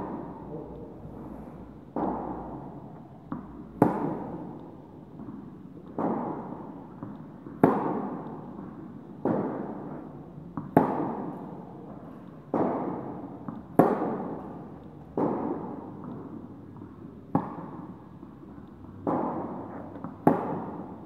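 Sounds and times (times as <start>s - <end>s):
rackets hitting tennis ball: 0.0s - 21.0s
tennis ball bouncing: 1.9s - 21.0s.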